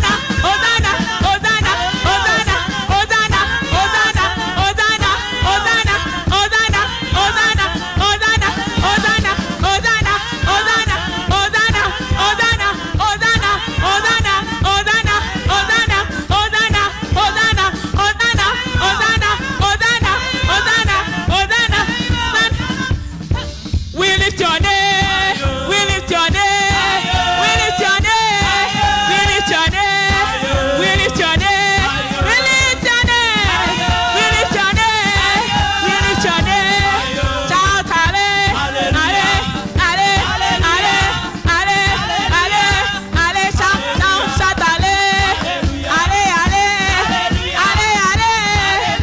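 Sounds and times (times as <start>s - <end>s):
band with steady beat: 0.0s - 49.0s
woman singing into microphone: 0.0s - 49.0s.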